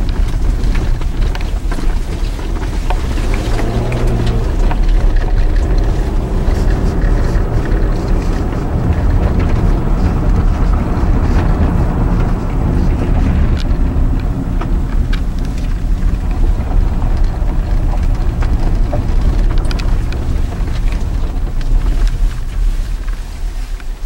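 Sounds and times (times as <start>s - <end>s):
hum: 0.0s - 24.0s
vehicle rumbling on snowy road: 0.0s - 24.0s.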